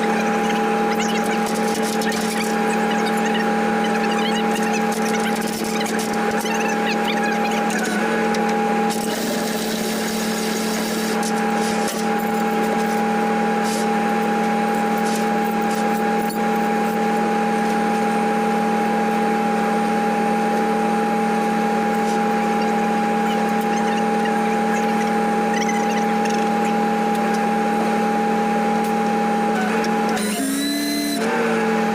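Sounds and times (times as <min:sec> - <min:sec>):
truck engine droning: 0:00.0 - 0:31.9.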